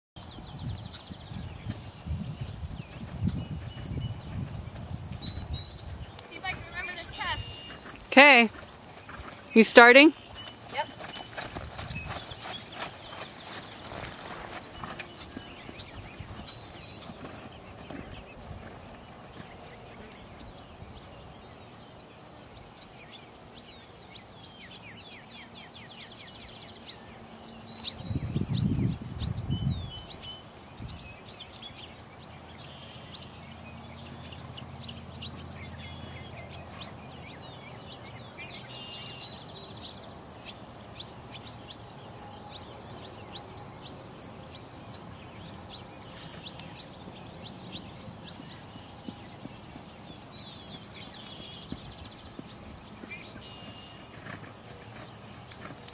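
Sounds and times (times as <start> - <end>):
bird chirps: 0.2 - 55.9.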